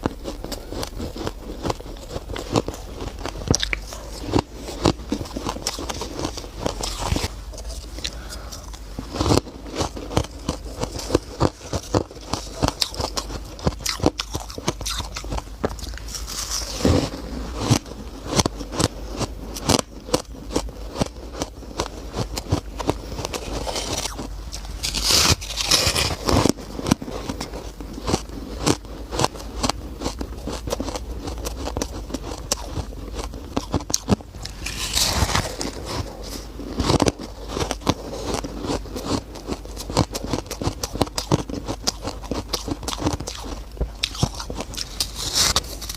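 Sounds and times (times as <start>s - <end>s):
crunching and squeaking ice chewing: 0.0s - 45.9s.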